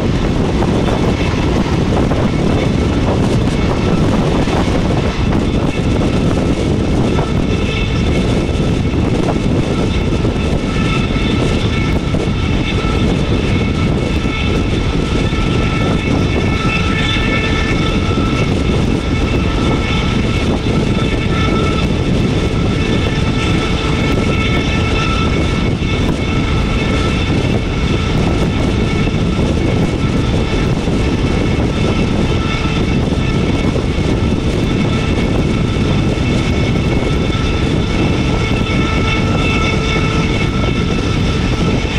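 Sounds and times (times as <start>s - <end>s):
train rumbling at speed: 0.0s - 41.9s.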